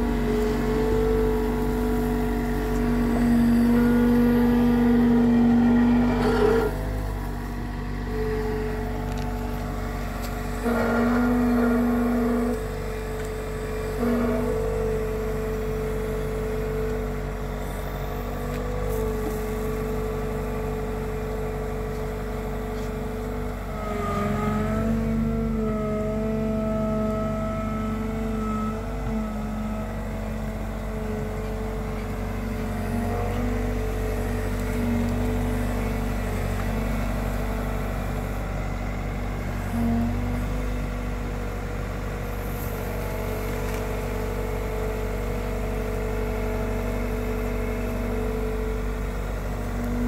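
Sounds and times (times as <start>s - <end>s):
diesel engine running with whine: 0.0s - 50.0s
higher hydraulic whine: 0.0s - 50.0s.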